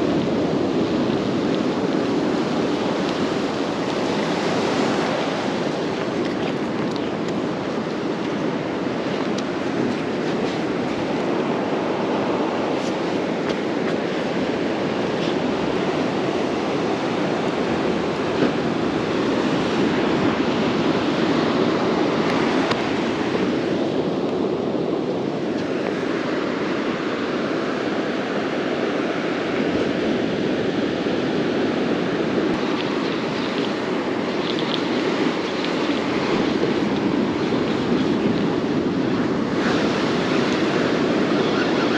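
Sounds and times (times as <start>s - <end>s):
ocean surf breaking: 0.0s - 41.9s.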